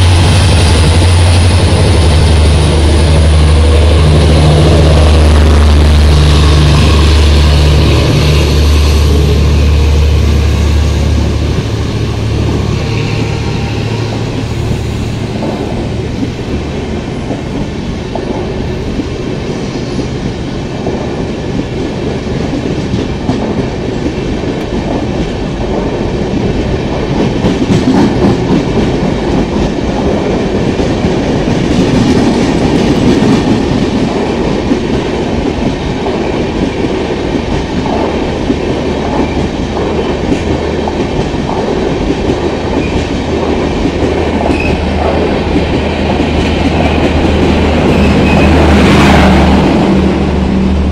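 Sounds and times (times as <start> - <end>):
train wheels clicking over rail joints: 0.0 - 50.9.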